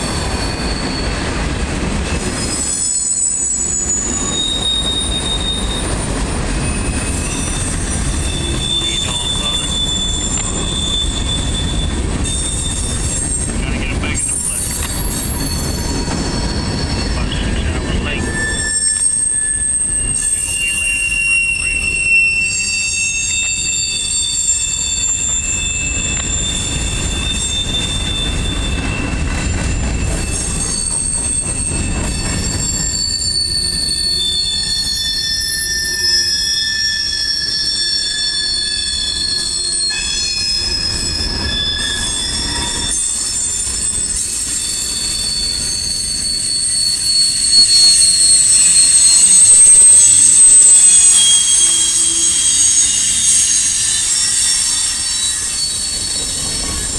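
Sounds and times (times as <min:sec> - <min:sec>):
low rumble of rolling train: 0:00.0 - 0:56.9
train wheels squealing on rails: 0:00.0 - 0:56.9.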